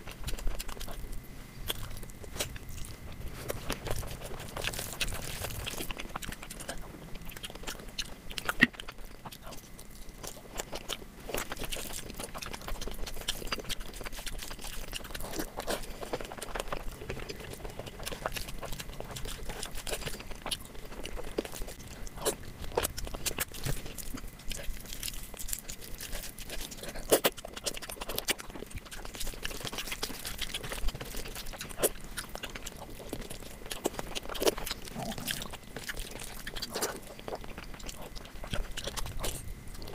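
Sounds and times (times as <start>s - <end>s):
person chewing and biting food: 0.0s - 39.9s.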